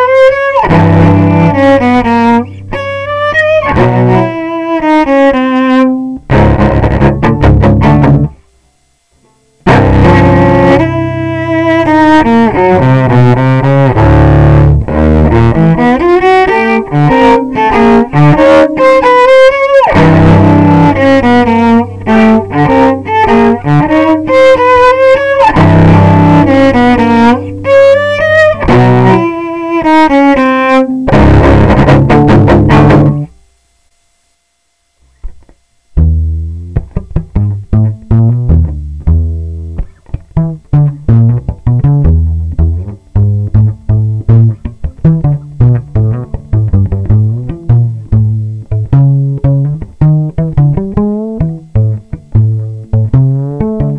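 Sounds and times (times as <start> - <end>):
bowed cello melody: 0.0 - 8.4, 9.6 - 33.3, 36.0 - 53.9
plucked cello notes: 0.0 - 33.4, 35.0 - 53.9.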